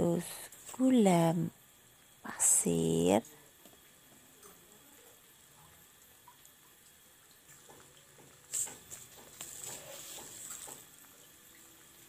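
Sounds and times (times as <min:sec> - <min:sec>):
broth bubbling in a pan: 0:00.0 - 0:12.0.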